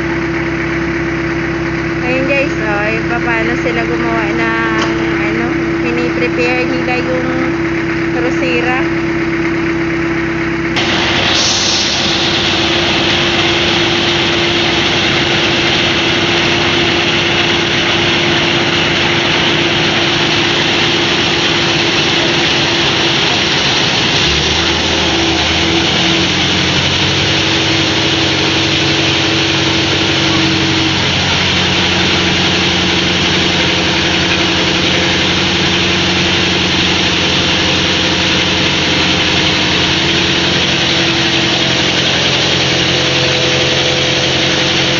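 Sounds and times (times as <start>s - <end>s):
deeper hum: 0.0s - 44.9s
rice milling machine running: 0.0s - 44.9s.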